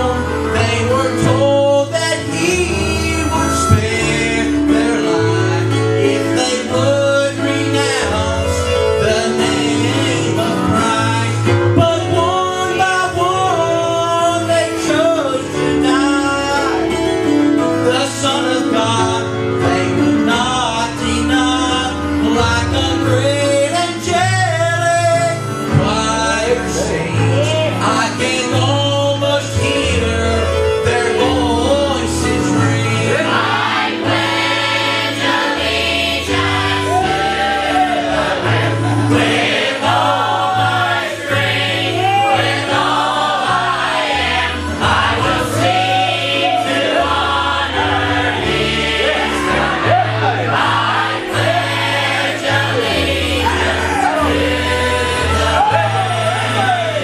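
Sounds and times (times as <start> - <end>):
choir singing gospel song: 0.0 - 57.0
keyboard accompaniment: 0.0 - 57.0.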